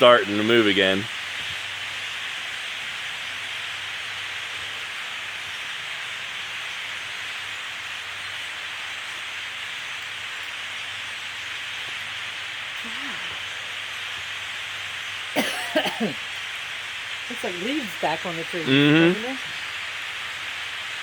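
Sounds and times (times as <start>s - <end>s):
flock of grackles chattering: 0.0s - 21.0s.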